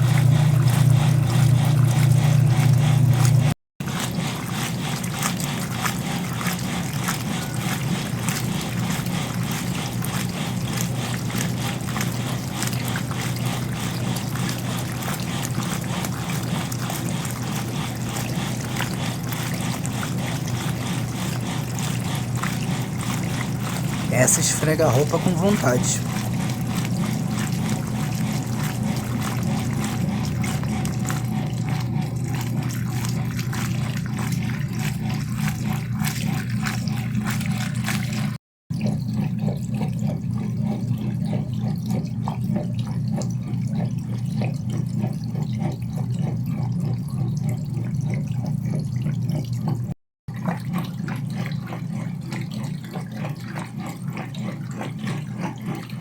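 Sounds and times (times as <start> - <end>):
washing machine motor hum: 0.0 - 56.0
water sloshing and churning: 0.0 - 56.0.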